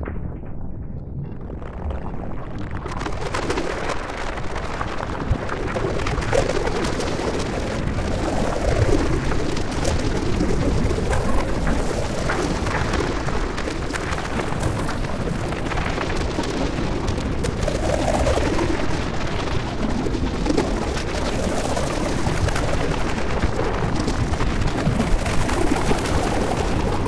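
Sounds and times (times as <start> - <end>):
dense rumbling noise with crackle: 0.0 - 27.0.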